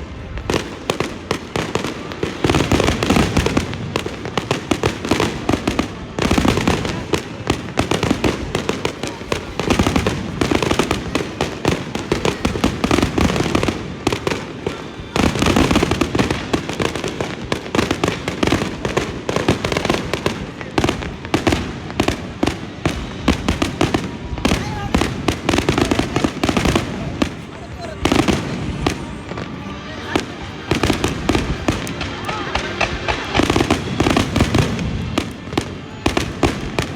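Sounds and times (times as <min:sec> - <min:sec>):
fireworks bangs and crackle: 0:00.0 - 0:36.9.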